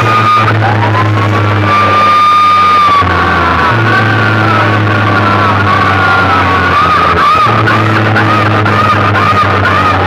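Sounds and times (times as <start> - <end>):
deep bass drone: 0.0 - 10.0
siren-like tone: 0.0 - 10.0.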